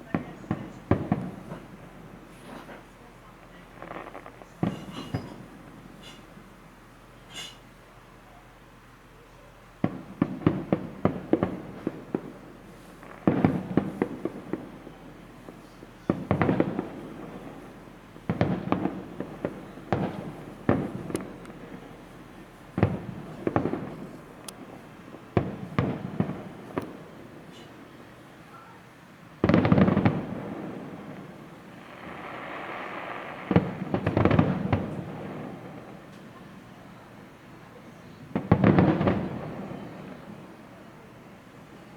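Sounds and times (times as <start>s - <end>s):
fireworks cracks and booms: 0.0s - 6.6s, 9.8s - 41.9s
fireworks crackling: 0.0s - 41.9s.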